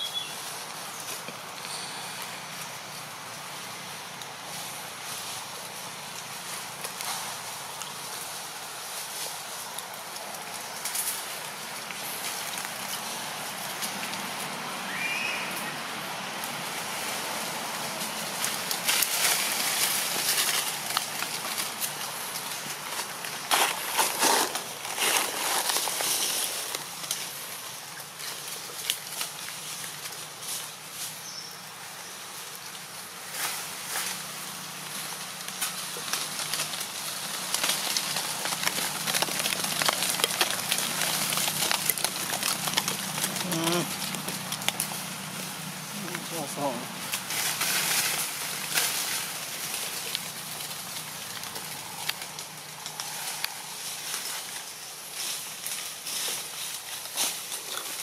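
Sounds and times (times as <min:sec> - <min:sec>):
dry leaves crackling and rustling: 0:00.0 - 0:58.0
steady hiss: 0:00.0 - 0:58.0.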